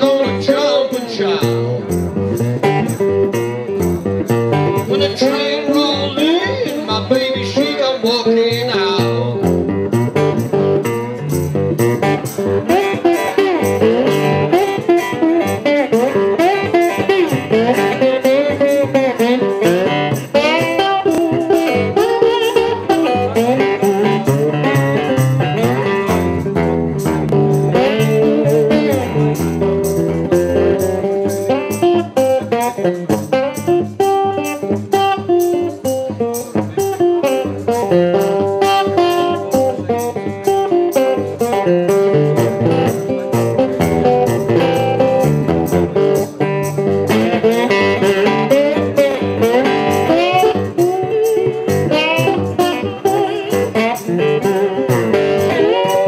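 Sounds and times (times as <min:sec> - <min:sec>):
resonator guitar blues: 0:00.0 - 0:56.0.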